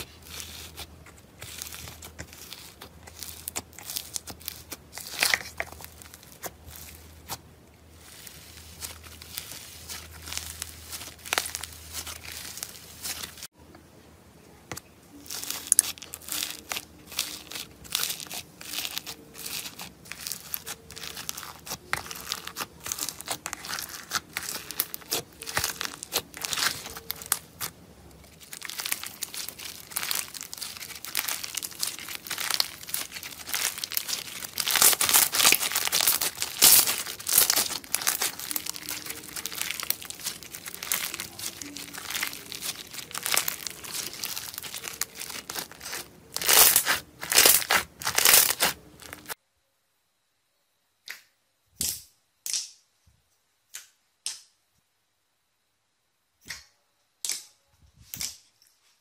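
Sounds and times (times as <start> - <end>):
foam slime crackling and popping: 0.0 - 13.5, 14.8 - 49.4.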